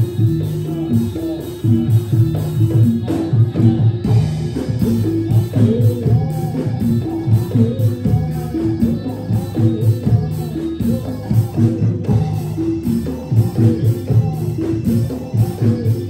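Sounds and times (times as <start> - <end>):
gamelan dance music: 0.0 - 16.0.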